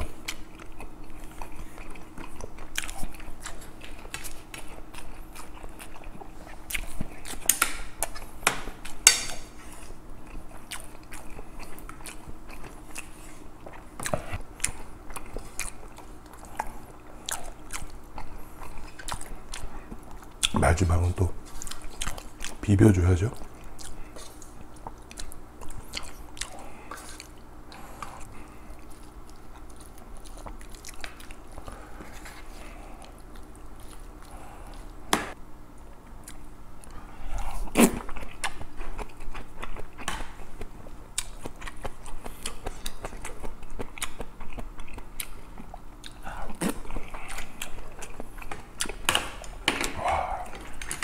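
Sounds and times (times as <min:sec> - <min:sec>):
chewing close to microphone: 0:00.0 - 0:35.0, 0:35.7 - 0:51.0.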